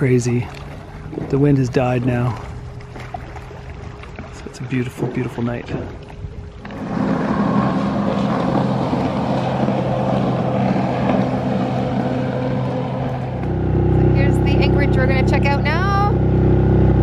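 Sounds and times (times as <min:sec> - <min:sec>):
jet ski engines: 0:00.0 - 0:17.0
low engine hum: 0:00.0 - 0:17.0.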